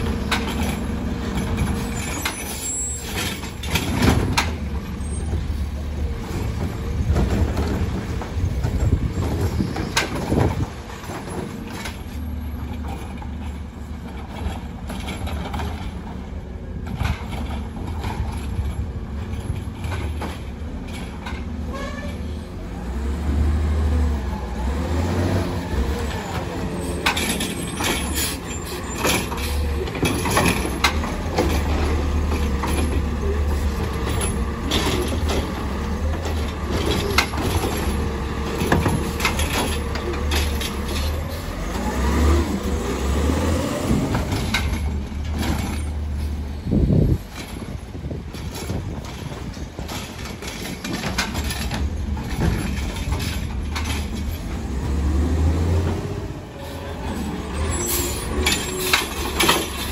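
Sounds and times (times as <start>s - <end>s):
garbage truck engine droning: 0.0s - 59.9s.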